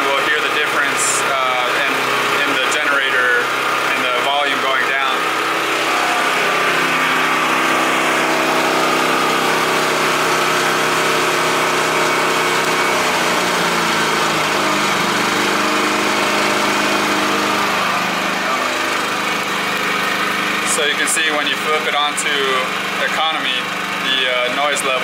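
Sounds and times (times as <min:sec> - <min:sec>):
portable generator running: 0:00.0 - 0:25.0.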